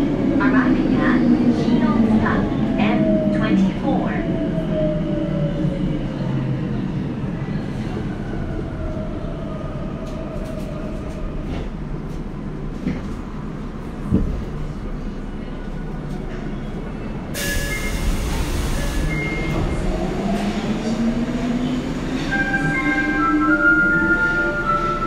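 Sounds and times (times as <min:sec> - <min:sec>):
subway car rumble: 0:00.0 - 0:25.0.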